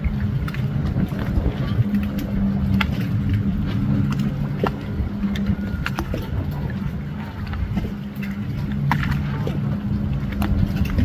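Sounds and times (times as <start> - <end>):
motorboat engines droning: 0.0 - 11.0.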